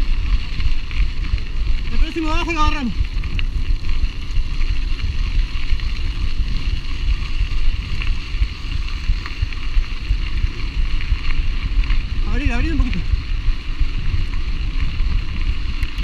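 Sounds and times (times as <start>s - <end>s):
tyres rolling over gravel: 0.0s - 16.0s
wind rush on microphone: 0.0s - 16.0s.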